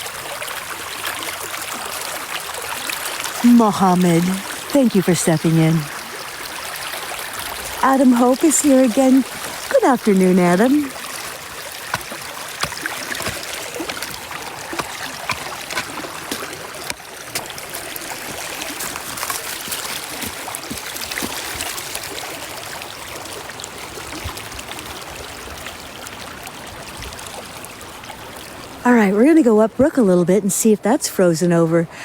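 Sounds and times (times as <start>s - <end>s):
brook water rushing: 0.0s - 29.3s.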